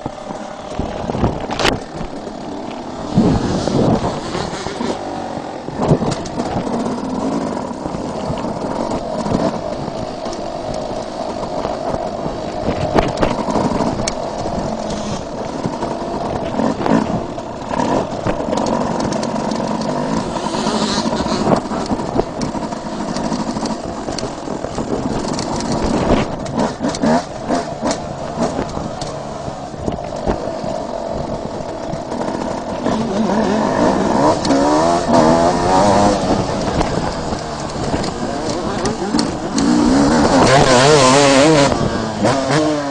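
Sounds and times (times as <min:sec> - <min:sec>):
motocross engine revving: 0:00.0 - 0:42.9.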